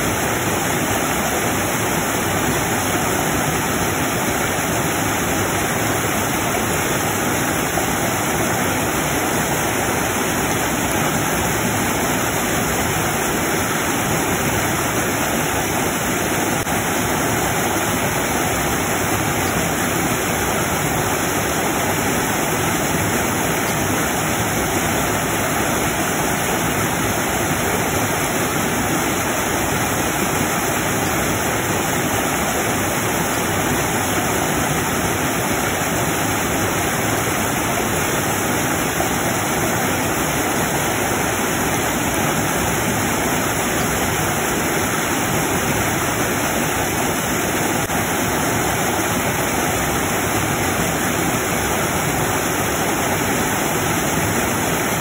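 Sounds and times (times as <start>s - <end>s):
waterfall rushing over boulders: 0.0s - 55.0s.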